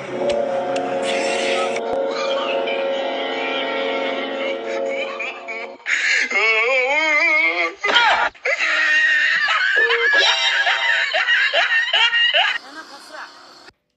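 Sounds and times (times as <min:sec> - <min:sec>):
comedy music: 0:00.0 - 0:08.1, 0:09.4 - 0:12.8.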